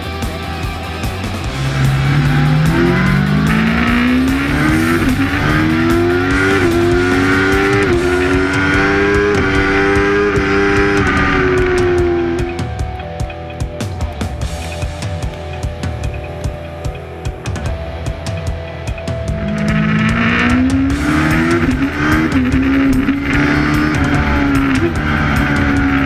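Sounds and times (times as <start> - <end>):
racing motorcycle engine accelerating: 0.4 - 26.0.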